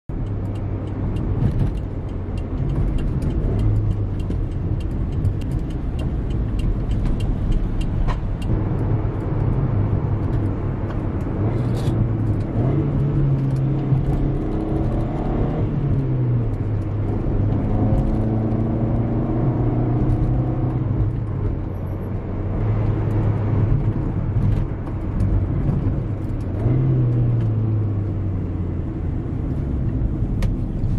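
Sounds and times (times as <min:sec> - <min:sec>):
car engine revving: 0:00.1 - 0:30.9
road noise inside car: 0:00.1 - 0:30.9.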